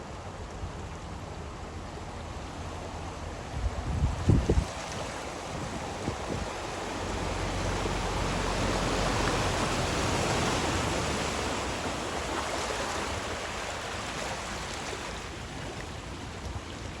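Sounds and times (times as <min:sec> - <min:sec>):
floodwater rushing and splashing: 0:00.0 - 0:17.0.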